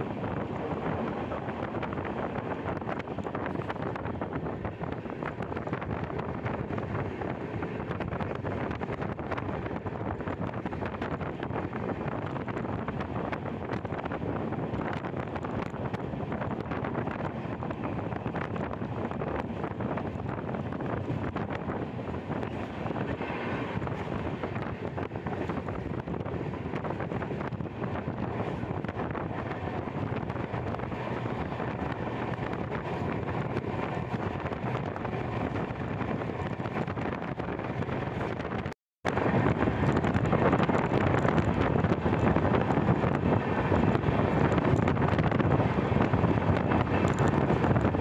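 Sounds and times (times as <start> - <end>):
train running noise: 0.0 - 48.0
wind on microphone: 0.0 - 48.0.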